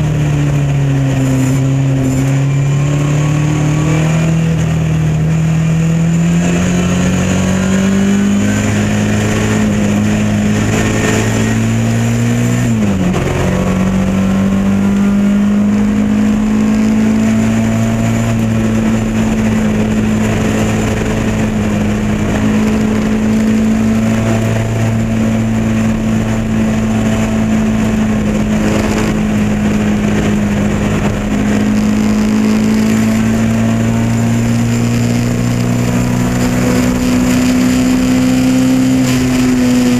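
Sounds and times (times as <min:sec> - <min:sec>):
gear change: 0:00.0 - 0:39.9
race car engine at high revs: 0:00.0 - 0:39.9.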